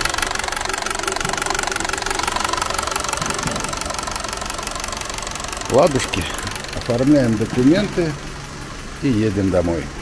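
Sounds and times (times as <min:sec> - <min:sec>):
car engine idling: 0:00.0 - 0:10.0
fast even engine ticking: 0:00.0 - 0:10.0.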